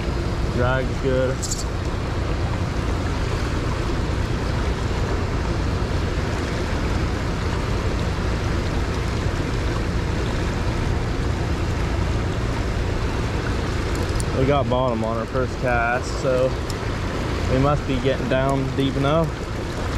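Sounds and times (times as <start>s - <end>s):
shallow creek rushing: 0.0s - 19.9s.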